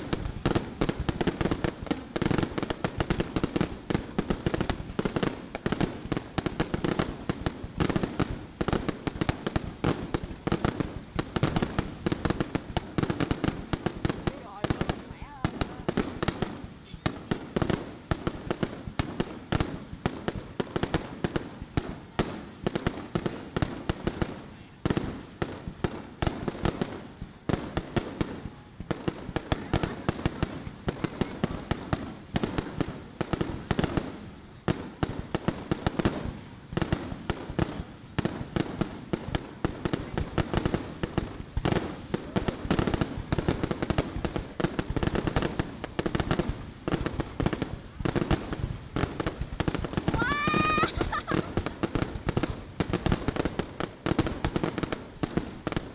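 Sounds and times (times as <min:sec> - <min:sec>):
fireworks exploding: 0:00.0 - 0:55.9.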